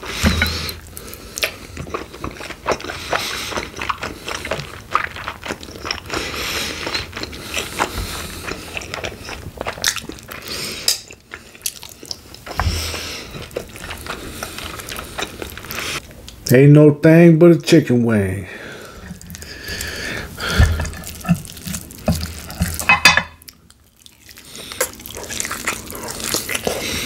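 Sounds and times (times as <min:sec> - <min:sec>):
chewing with mouth smacks: 0:00.2 - 0:16.4, 0:18.8 - 0:27.0.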